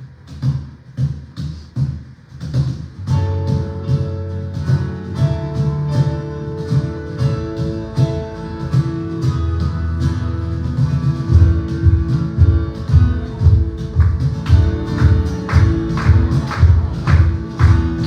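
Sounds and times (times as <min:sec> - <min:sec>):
steady bass: 0:03.0 - 0:18.0
strummed guitar: 0:03.0 - 0:18.0
live band playing: 0:03.1 - 0:18.0.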